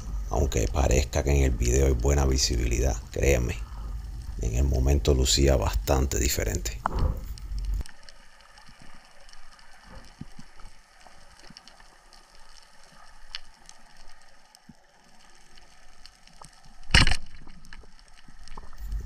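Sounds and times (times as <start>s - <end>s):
faint hiss of water: 0.0s - 16.9s, 17.5s - 19.0s
sharp underwater clicks and crackles: 0.0s - 19.0s.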